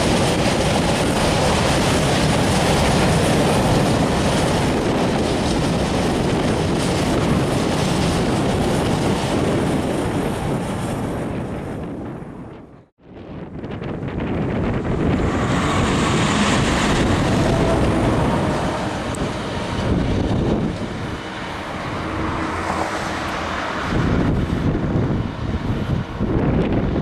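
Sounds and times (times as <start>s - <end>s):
train passing close by: 0.0s - 27.0s.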